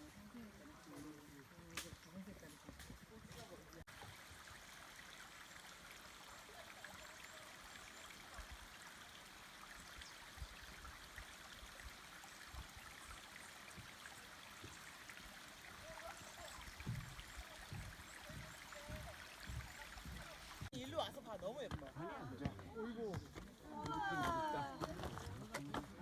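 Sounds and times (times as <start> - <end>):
stream flowing: 0.0 - 22.8.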